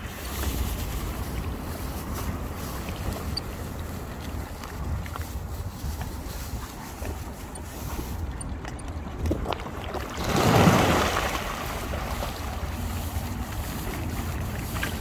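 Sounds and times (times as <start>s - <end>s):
birds splashing across water: 0.0s - 15.0s
wind rumble on microphone: 0.0s - 15.0s.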